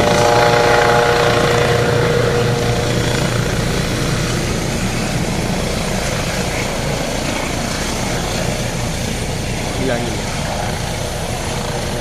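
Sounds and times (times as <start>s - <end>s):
engine whine: 0.0s - 12.0s
helicopter hovering: 0.0s - 12.0s.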